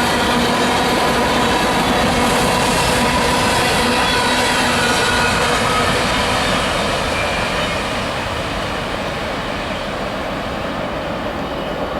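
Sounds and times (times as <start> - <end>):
freight train rolling by: 0.0 - 11.9.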